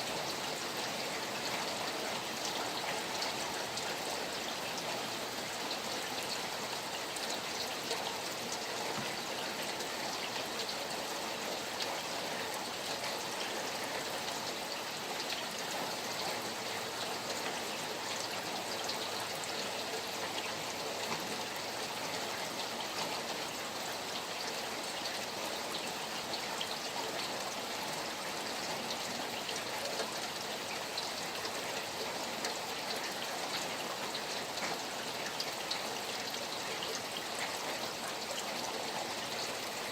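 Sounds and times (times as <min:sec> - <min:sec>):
rain falling: 0:00.0 - 0:39.9
stream water flowing: 0:00.0 - 0:39.9.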